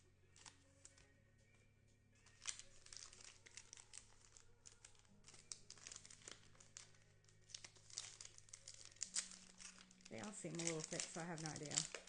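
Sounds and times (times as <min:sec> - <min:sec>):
wrapper crinkling and tearing: 0:02.2 - 0:12.0.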